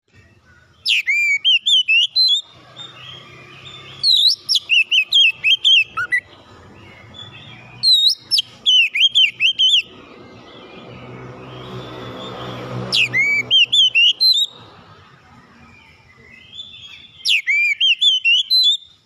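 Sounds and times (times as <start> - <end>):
bird singing whistled phrases: 0.7 - 6.3, 6.9 - 14.6, 15.5 - 19.0.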